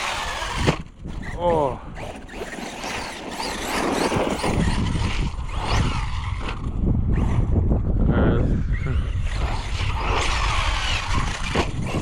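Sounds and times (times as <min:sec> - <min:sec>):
electric motor whining: 0:00.0 - 0:07.6, 0:08.4 - 0:12.0
rumble of drivetrain and tyres: 0:00.0 - 0:12.0.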